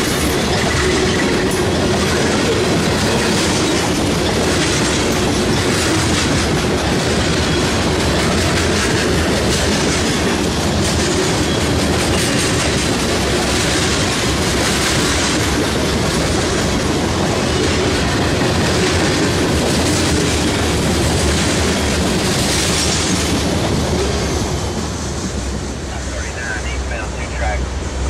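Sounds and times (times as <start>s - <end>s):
steel wheels on rails: 0.0s - 25.8s.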